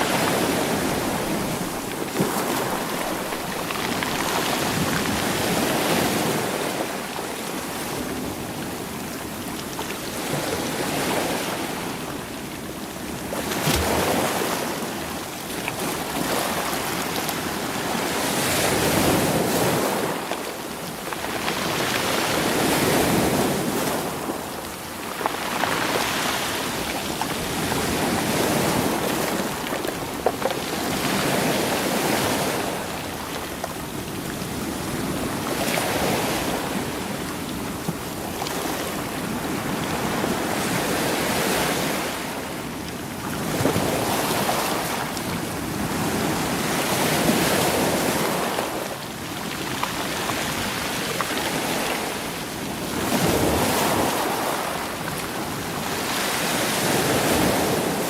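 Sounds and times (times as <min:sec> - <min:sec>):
waves washing over stones: 0:00.0 - 0:58.0.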